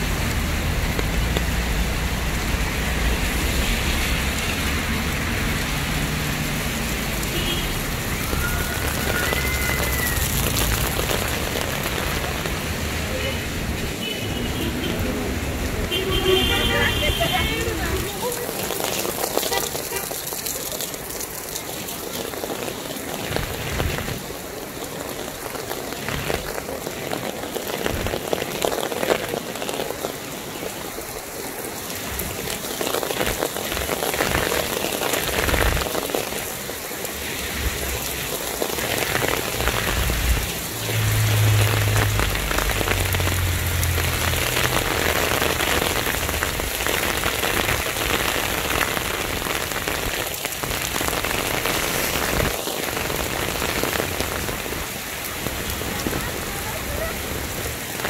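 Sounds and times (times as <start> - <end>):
heavy rain on pavement and cars: 0.0 - 58.0.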